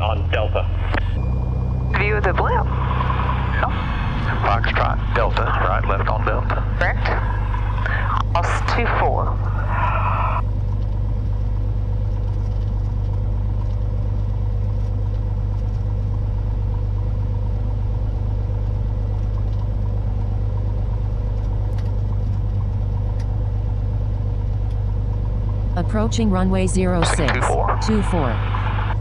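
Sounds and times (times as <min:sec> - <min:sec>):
aircraft engine and propeller drone: 0:00.0 - 0:29.0.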